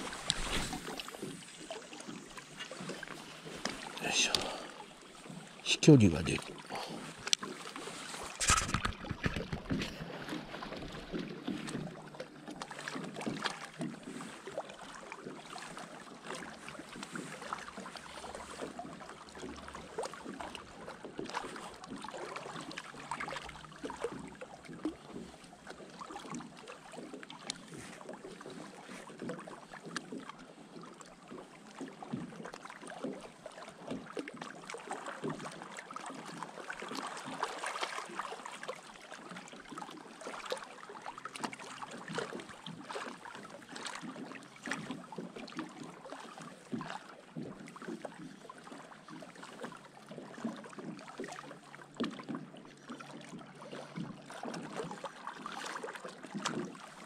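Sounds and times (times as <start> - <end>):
small waves lapping: 0.0 - 57.0.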